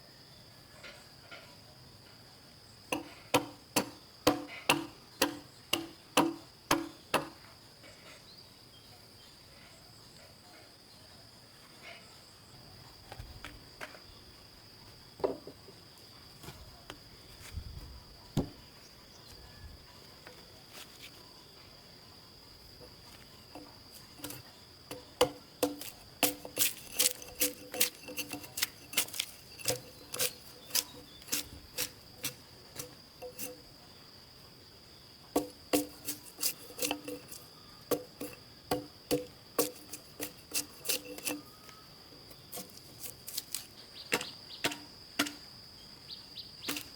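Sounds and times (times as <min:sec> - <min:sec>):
insects droning: 0:00.0 - 0:46.9.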